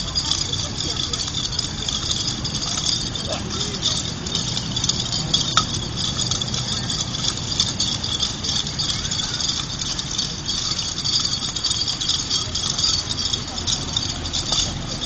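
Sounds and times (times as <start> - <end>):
constant high-pitched hiss: 0.0 - 15.0
distant road traffic rumble: 0.0 - 15.0.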